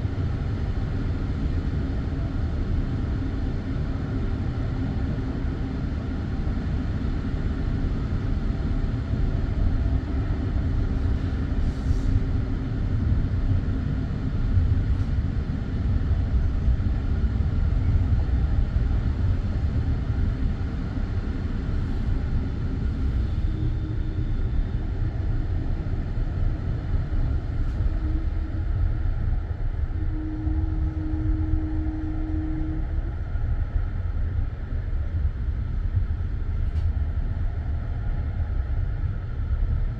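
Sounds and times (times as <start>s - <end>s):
rumble of wheels on rails: 0.0s - 39.9s.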